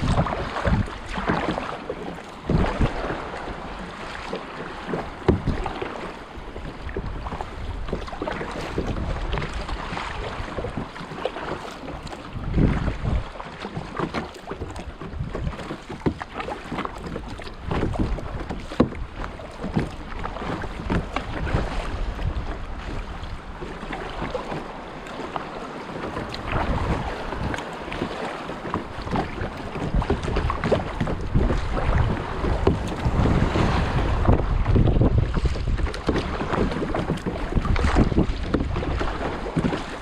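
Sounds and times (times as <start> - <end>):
wind buffeting microphone: 0.0 - 4.0, 4.6 - 11.0, 11.9 - 13.4, 17.0 - 24.8, 26.0 - 40.0
paddle splashes and knocks: 0.0 - 40.0
sea wash: 0.0 - 40.0
water slapping hull: 0.0 - 40.0.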